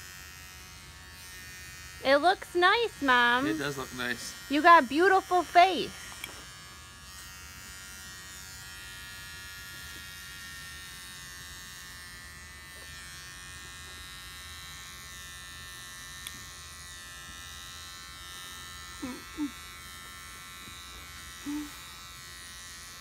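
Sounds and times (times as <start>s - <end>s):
electric trimmer buzzing: 0.0s - 23.0s.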